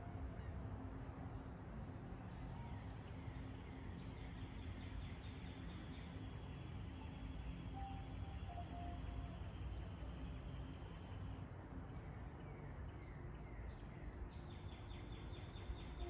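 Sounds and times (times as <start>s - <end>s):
birds chirping: 2.6s - 16.0s.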